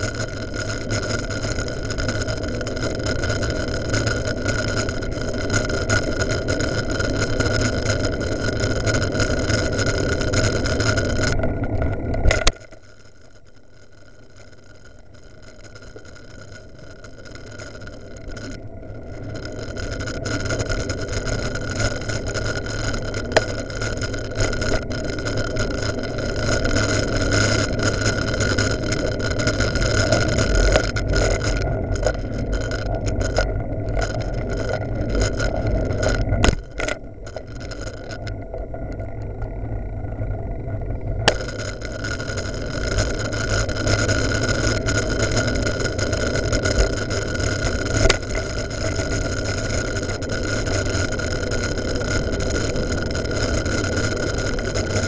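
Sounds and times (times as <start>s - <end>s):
faint high whine: 0.0s - 55.0s.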